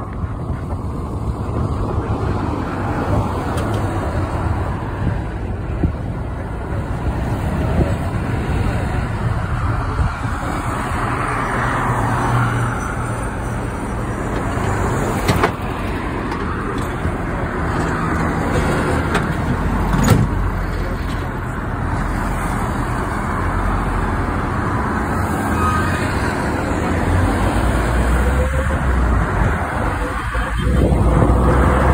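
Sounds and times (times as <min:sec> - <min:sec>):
passing traffic: 0:00.0 - 0:31.9
vehicle road noise: 0:00.0 - 0:31.9.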